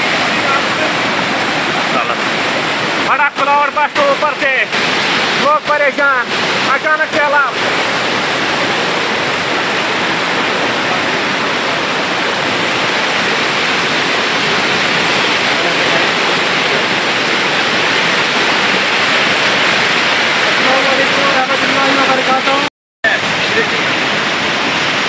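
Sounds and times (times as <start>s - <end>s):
torrent rushing down stream bed: 0.0s - 25.0s.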